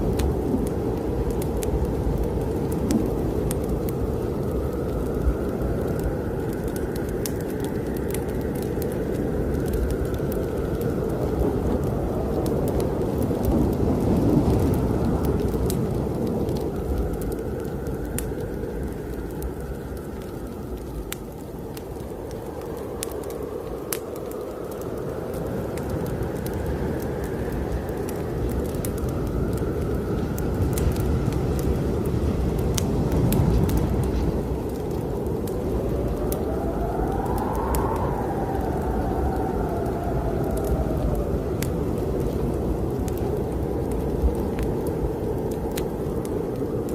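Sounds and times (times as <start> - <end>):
strong wind blowing: 0.0 - 46.9
wood fire crackling: 0.0 - 46.9.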